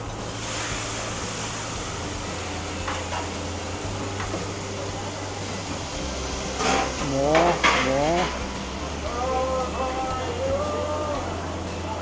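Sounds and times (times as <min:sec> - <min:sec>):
ventilation hum and hiss: 0:00.0 - 0:12.0.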